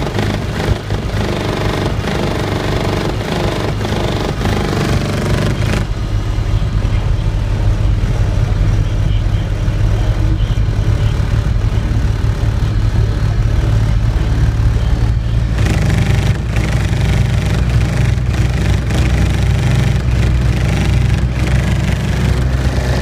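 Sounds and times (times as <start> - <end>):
loud deep subwoofer bass: 0.0 - 23.0.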